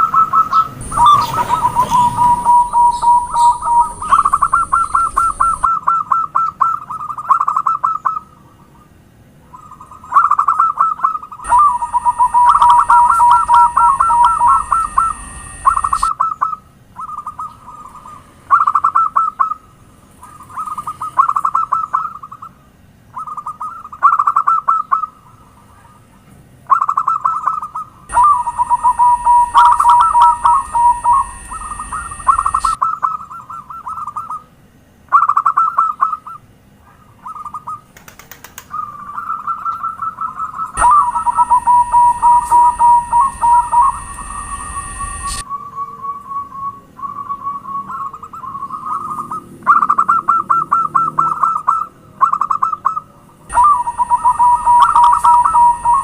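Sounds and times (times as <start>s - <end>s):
dove cooing: 0.0s - 8.9s, 9.5s - 26.0s, 26.7s - 34.5s, 35.1s - 56.0s.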